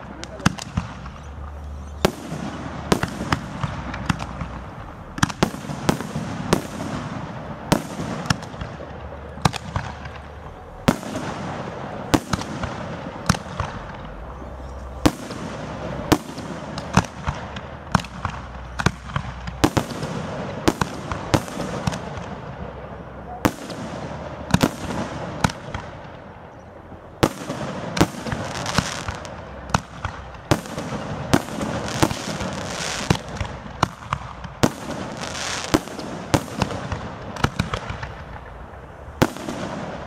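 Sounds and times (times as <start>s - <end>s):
background rumble: 0.0s - 40.0s.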